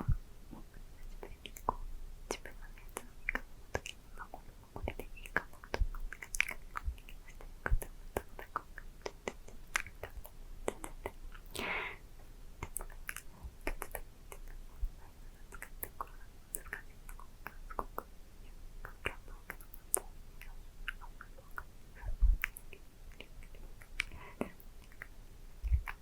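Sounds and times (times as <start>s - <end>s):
wet mouth clicks and lip smacks: 1.0s - 11.6s, 12.6s - 14.9s, 15.5s - 18.1s, 18.8s - 21.7s, 22.4s - 26.0s.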